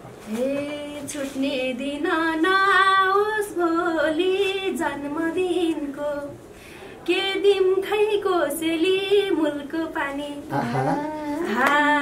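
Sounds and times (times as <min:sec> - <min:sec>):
woman singing: 0:00.3 - 0:06.4, 0:07.1 - 0:12.0.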